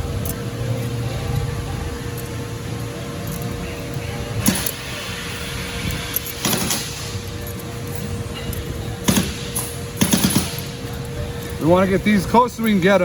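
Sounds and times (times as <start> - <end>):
shop hum: 0.0 - 13.0.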